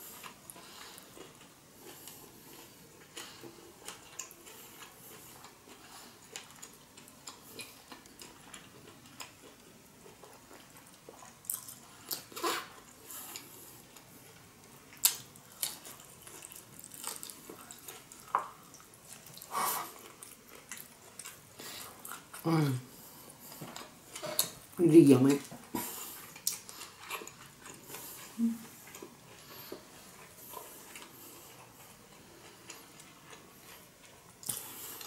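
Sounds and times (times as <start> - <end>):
wet chewing and mouth smacks: 0.2 - 22.4, 23.5 - 24.7, 25.4 - 35.0.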